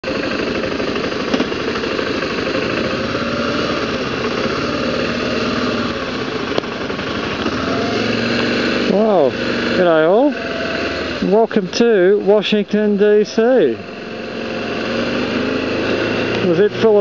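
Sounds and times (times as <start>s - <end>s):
motorcycle engine throbbing: 0.0s - 17.0s.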